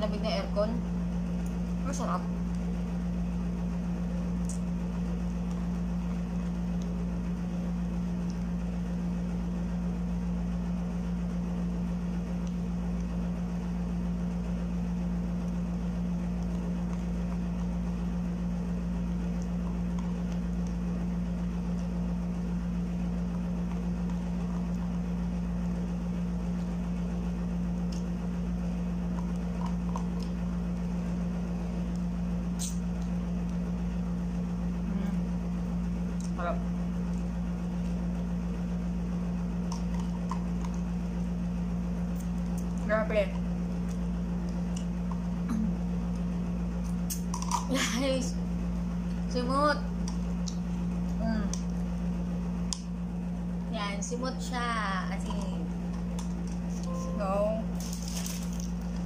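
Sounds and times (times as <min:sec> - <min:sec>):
air conditioner humming: 0:00.0 - 0:59.0.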